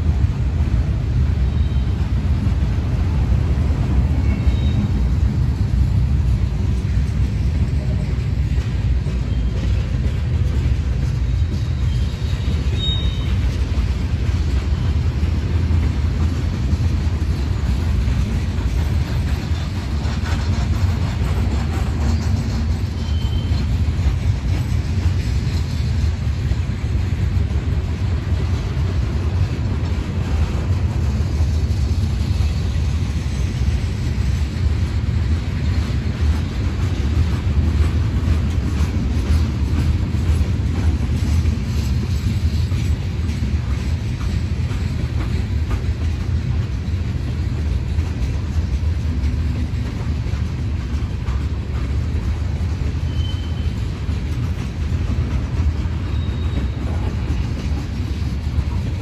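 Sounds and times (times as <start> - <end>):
train cars rumbling on track: 0.0 - 59.0.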